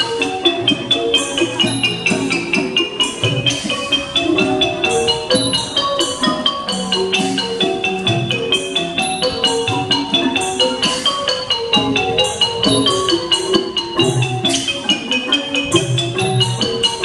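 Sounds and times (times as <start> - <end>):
mallet percussion running notes: 0.0 - 17.0.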